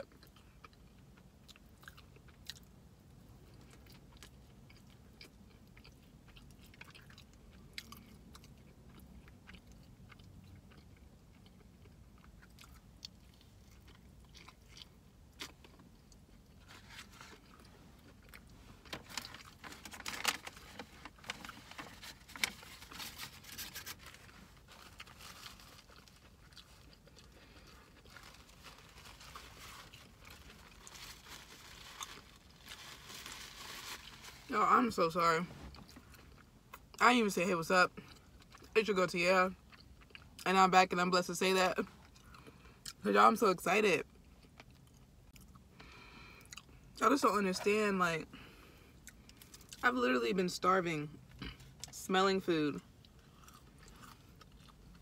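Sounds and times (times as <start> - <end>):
person chewing a sandwich: 0.0 - 34.3, 35.5 - 37.0, 38.0 - 38.7, 39.6 - 40.4, 41.8 - 43.0, 44.0 - 47.0, 48.3 - 49.8, 51.1 - 51.9, 52.8 - 55.0.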